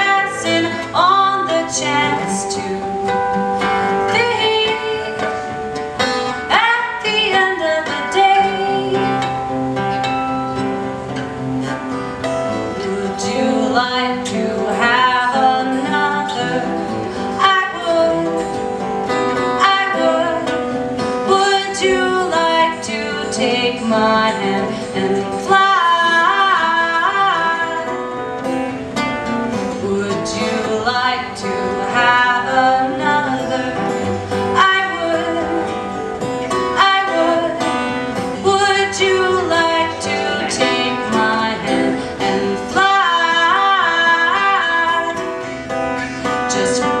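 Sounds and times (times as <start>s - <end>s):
person singing: 0.0s - 9.6s, 11.6s - 28.4s, 29.6s - 47.0s
guitar: 0.0s - 47.0s.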